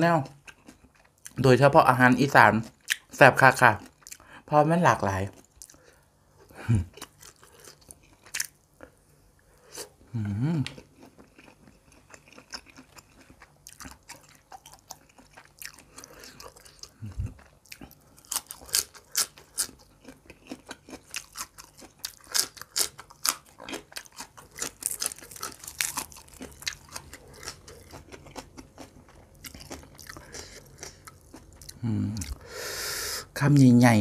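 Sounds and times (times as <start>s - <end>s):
person chewing crunchy food: 0.2s - 1.4s, 2.5s - 4.4s, 5.2s - 9.0s, 9.6s - 32.9s.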